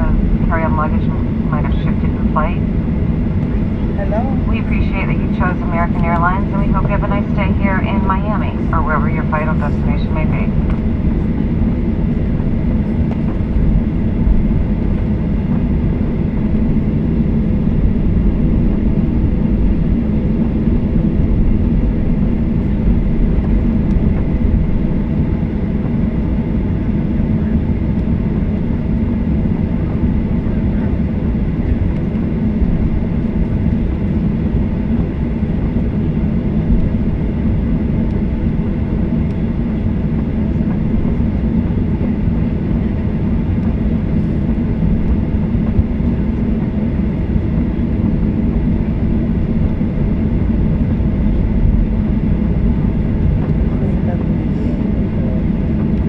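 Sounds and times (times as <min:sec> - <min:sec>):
airliner cabin low rumble: 0:00.0 - 0:56.0.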